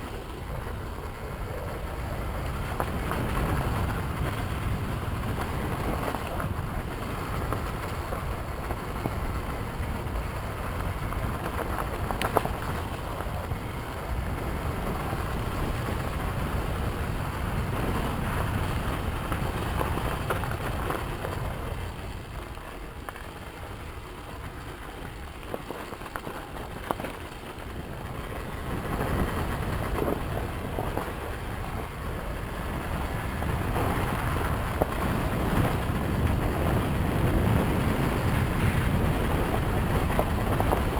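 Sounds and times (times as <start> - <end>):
wind rushing over microphone: 0.0 - 24.7, 26.3 - 40.9.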